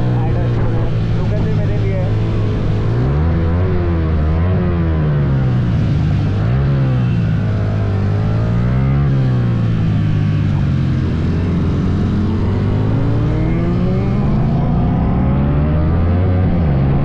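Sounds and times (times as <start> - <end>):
motorcycle engine accelerating: 0.0 - 17.0
motorcycle engine steady low note: 0.0 - 17.0.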